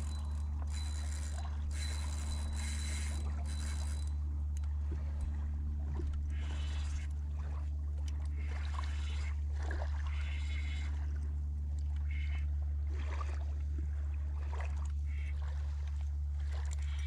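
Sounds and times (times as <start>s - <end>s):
boat motor humming: 0.0s - 17.0s
water splashing against boat: 0.0s - 17.0s.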